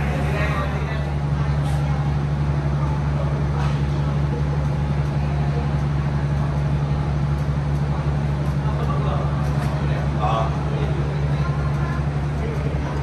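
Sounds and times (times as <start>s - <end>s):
train engine droning: 0.0s - 13.0s.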